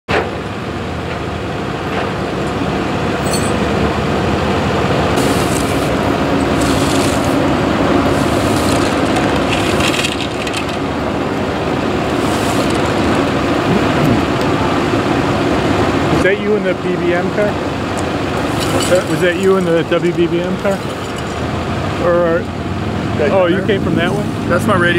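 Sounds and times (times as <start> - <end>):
road traffic noise: 0.1 - 24.9
vehicles passing: 0.1 - 24.9.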